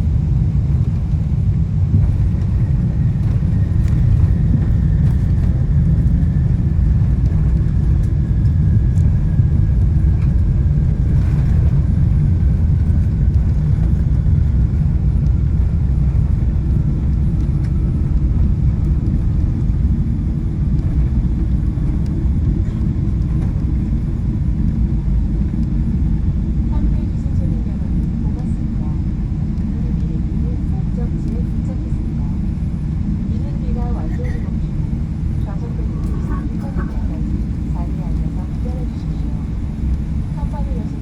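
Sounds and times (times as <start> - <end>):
airplane cabin low rumble: 0.0 - 41.0.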